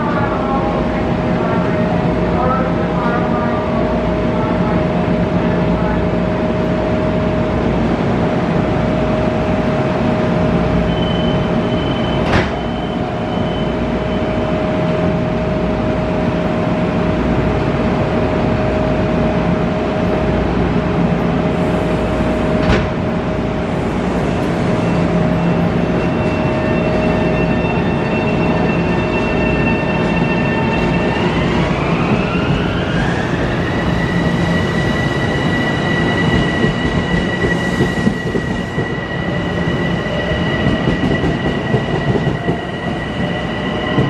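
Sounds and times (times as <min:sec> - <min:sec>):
electric train humming: 0:00.0 - 0:44.0.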